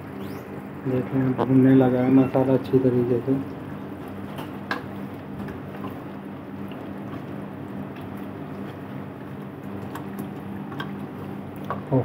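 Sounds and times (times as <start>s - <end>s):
food frying and bubbling in pot: 0.0s - 12.0s
steady low hum: 0.0s - 12.0s.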